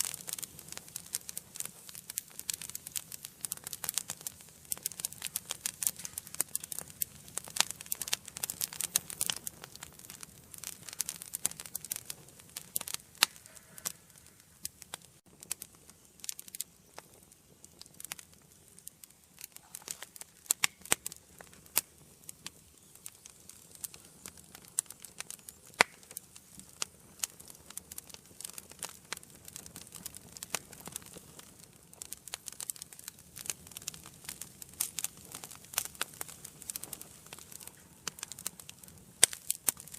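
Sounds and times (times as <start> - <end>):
faint steady hiss: 0.0 - 39.9
fire crackling and popping: 0.0 - 39.9.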